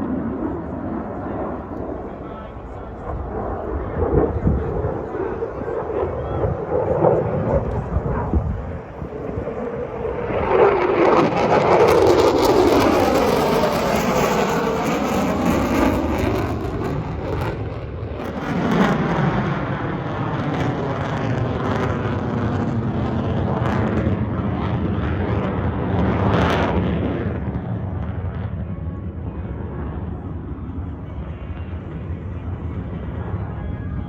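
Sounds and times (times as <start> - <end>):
airplane engine passing overhead: 0.0 - 34.0.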